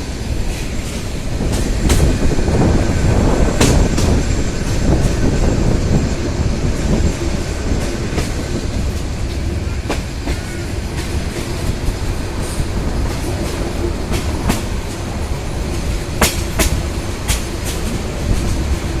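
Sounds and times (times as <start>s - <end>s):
train rumbling on track: 0.0s - 19.0s
wheels clacking over rail joints: 0.0s - 19.0s.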